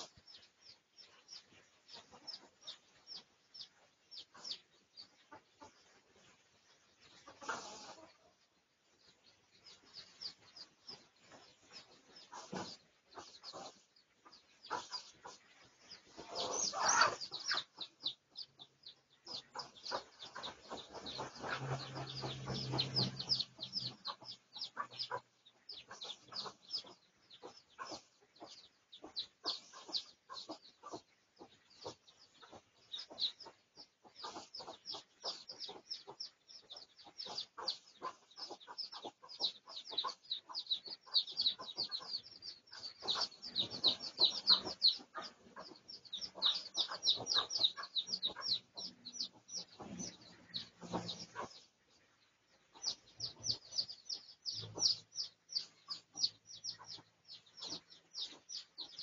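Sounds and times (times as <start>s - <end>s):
junglefowl chirps and clucks: 0.0s - 6.4s, 7.0s - 8.5s, 9.6s - 59.0s.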